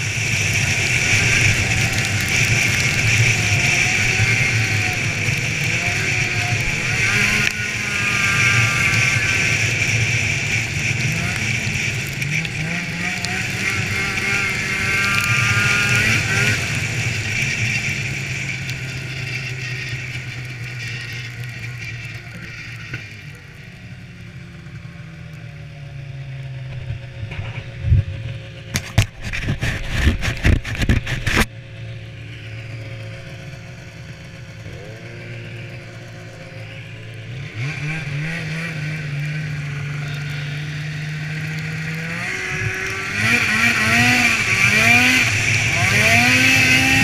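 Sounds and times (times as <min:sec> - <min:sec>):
snowmobile engine: 0:00.0 - 0:47.0.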